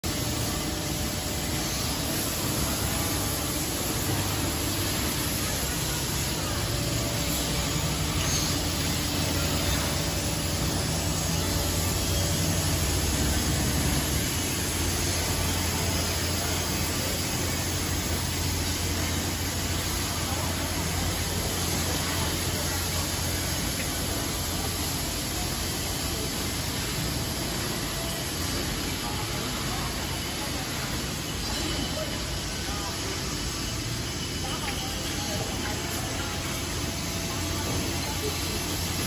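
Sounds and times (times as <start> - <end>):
low machinery hum: 0.0 - 39.0
machinery hiss: 0.1 - 39.0.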